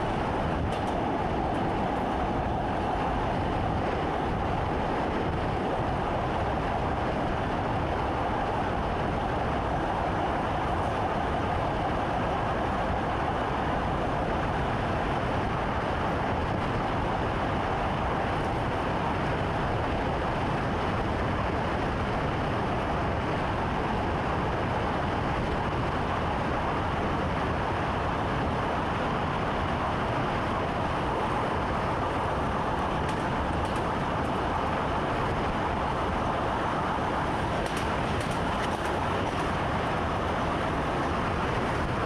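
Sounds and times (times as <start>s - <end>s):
train running rumble: 0.0s - 42.0s.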